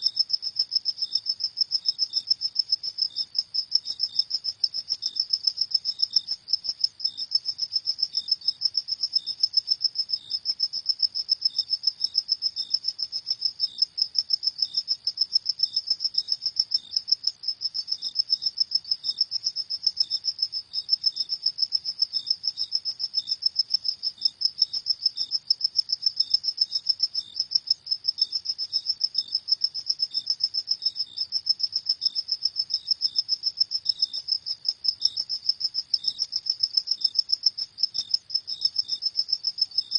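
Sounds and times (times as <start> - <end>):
crickets chirping: 0.0 - 39.9
fainter lower cricket chirp: 0.0 - 39.9.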